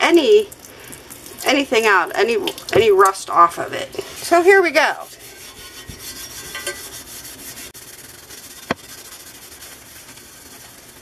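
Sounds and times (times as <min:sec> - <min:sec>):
steel wool scrubbing cast iron: 0:01.4 - 0:11.0.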